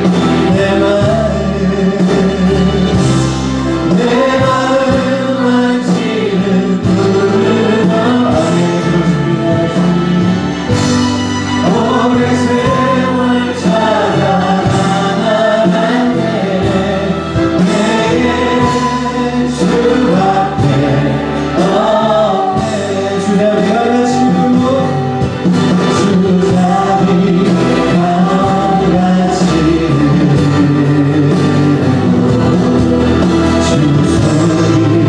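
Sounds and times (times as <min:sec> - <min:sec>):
group singing worship song: 0:00.0 - 0:35.0
instrumental accompaniment: 0:00.0 - 0:35.0.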